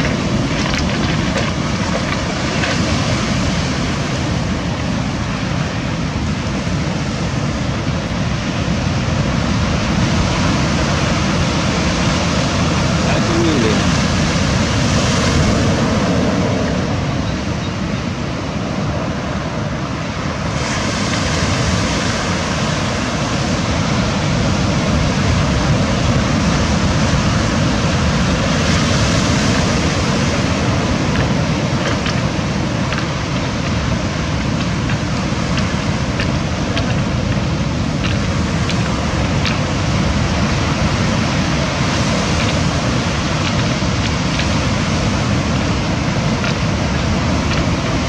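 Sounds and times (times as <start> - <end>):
waves breaking on pebble beach: 0.0 - 48.0
wind buffeting microphone: 0.0 - 48.0.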